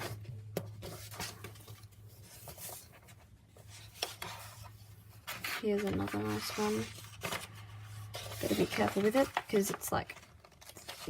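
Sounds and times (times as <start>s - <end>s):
stiff paper crackling: 0.8s - 11.0s.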